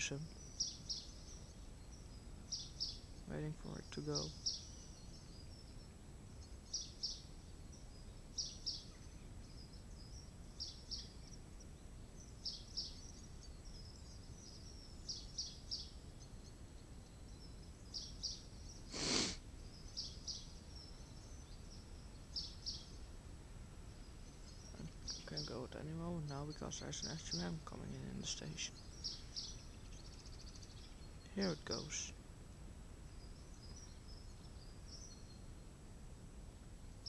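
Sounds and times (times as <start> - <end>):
bird singing: 0.0 - 23.2, 23.9 - 32.2, 33.0 - 35.8
low background noise: 0.0 - 37.0.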